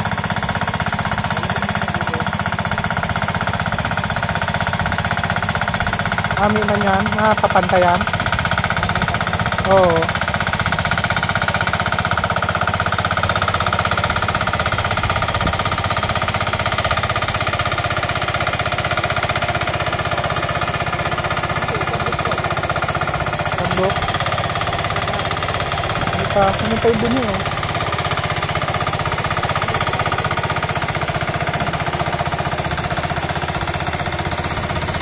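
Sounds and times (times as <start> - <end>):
tiller engine chugging: 0.0 - 35.0.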